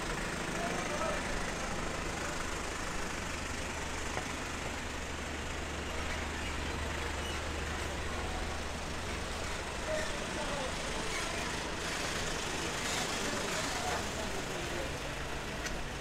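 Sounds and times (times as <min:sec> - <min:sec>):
faint voices of passers-by: 0:00.0 - 0:16.0
road vehicle engine hum: 0:00.0 - 0:16.0
roadway noise: 0:00.0 - 0:16.0.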